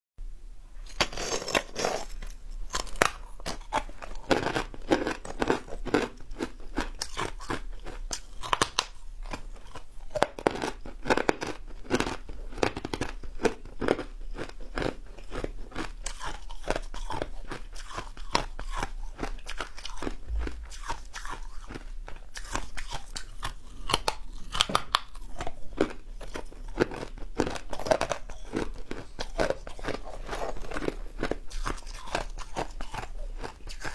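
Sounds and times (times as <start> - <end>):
person chewing crunchy food: 0.8 - 33.9.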